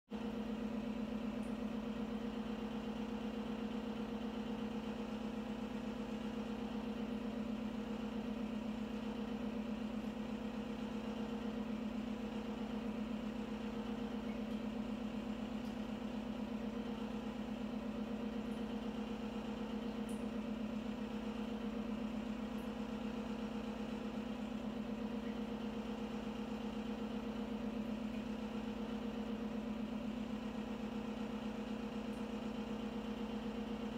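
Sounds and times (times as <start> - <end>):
steady mechanical hum: 0.1 - 33.9.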